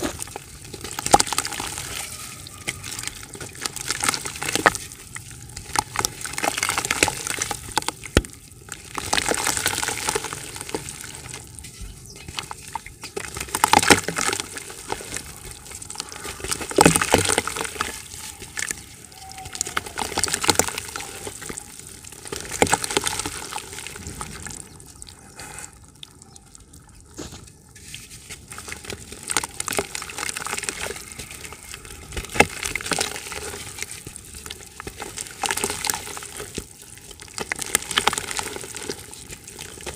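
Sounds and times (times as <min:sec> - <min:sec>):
crumbs splashing into water: 0:00.0 - 0:39.9
dry dirt crackling as it breaks: 0:00.0 - 0:39.9.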